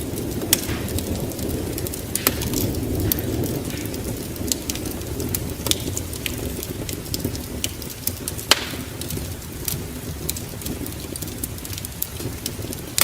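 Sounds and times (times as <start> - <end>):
rain: 0.0 - 13.0
thunder rumble: 0.0 - 13.0
wood fire crackling and popping: 0.0 - 13.0.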